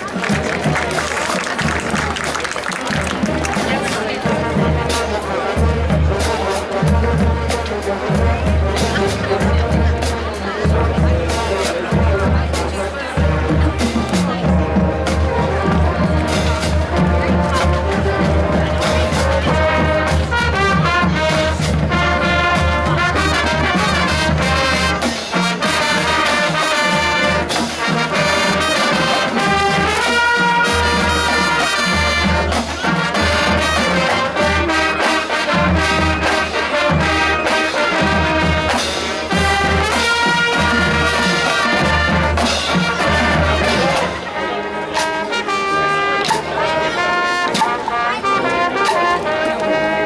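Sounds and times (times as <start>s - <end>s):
marching band playing: 0.0s - 50.0s.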